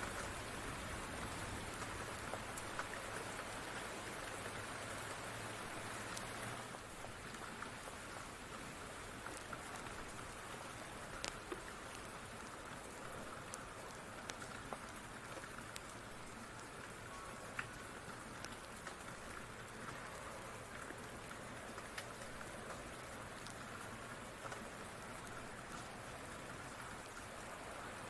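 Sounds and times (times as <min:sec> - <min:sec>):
rain falling on a surface: 0:00.0 - 0:28.0.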